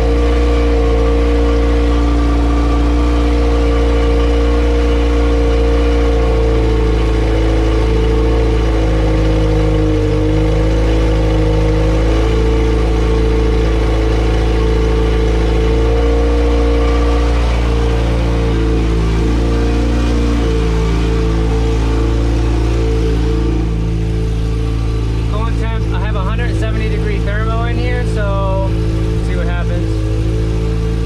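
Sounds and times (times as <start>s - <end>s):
unmuffled engine fast idle: 0.0s - 31.0s.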